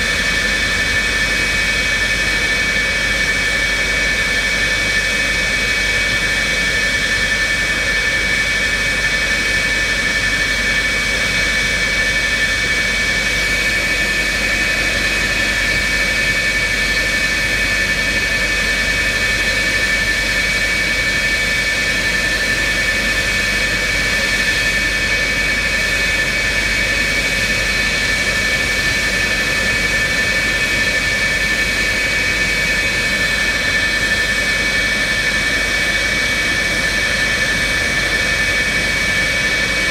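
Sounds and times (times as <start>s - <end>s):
jet engines running steadily: 0.0s - 39.9s.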